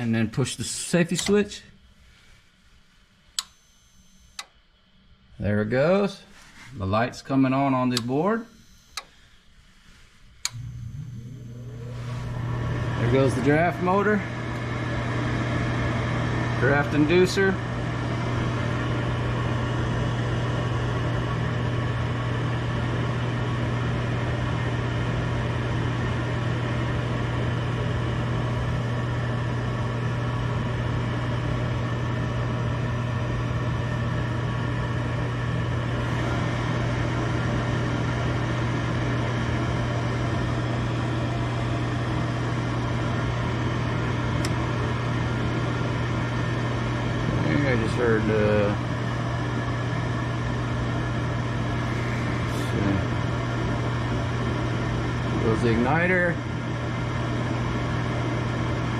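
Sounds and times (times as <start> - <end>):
furnace motor humming: 0.0 - 58.9.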